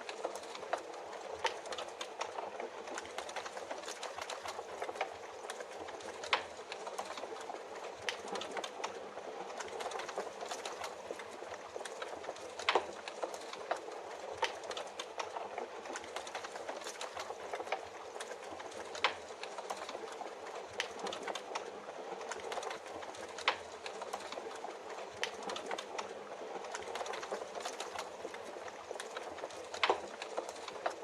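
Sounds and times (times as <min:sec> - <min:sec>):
fireplace crackling: 0:00.0 - 0:31.0.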